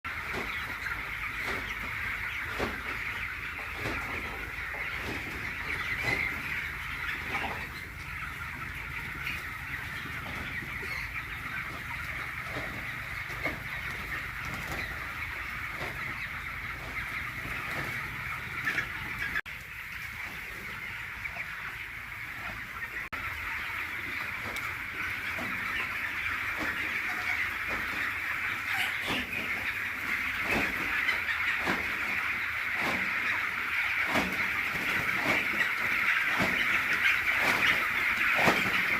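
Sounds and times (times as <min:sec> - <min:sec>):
chickens chirping and clucking: 0:00.0 - 0:38.9.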